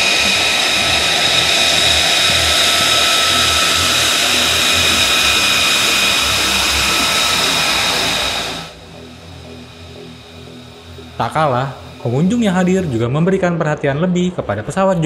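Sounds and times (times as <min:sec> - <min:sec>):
jet engine rush and whine: 0:00.0 - 0:14.9.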